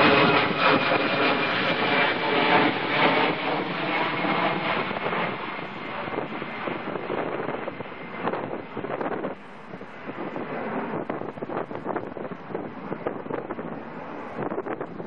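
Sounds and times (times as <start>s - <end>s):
jet engines rumbling with whine: 0.0s - 15.0s.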